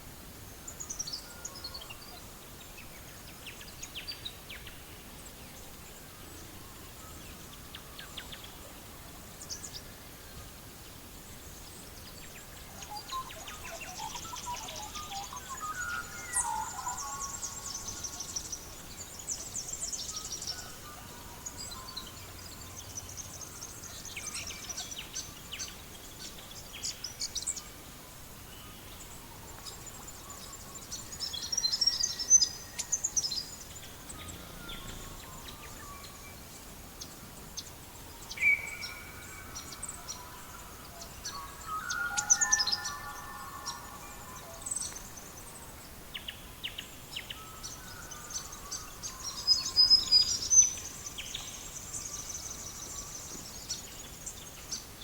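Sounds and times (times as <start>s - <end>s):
songbirds singing and chirping: 0.3s - 55.0s.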